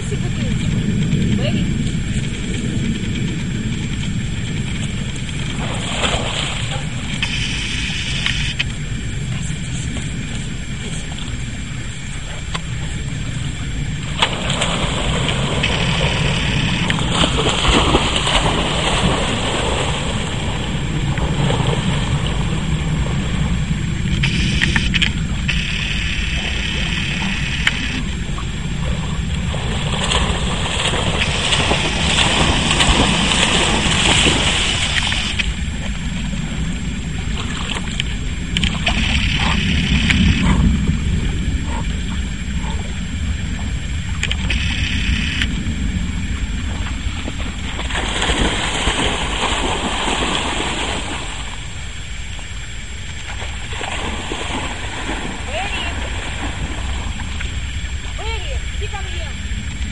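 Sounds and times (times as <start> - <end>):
low wind rumble on microphone: 0.0 - 59.9
water splashing from dogs swimming: 0.0 - 59.9.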